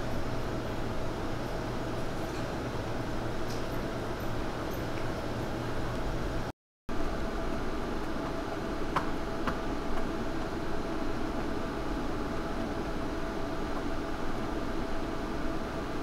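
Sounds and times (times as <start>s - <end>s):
machine hum with faint whine: 0.0s - 16.0s.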